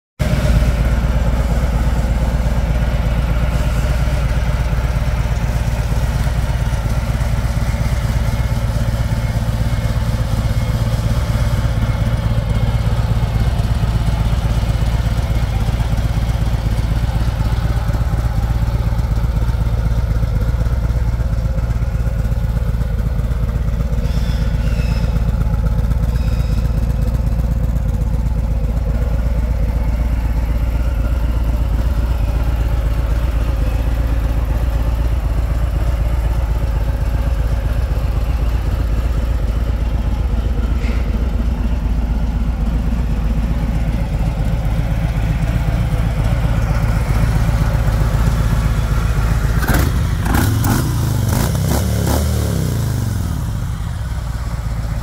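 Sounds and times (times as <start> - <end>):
motorcycle engine idling: 0.2 - 55.0.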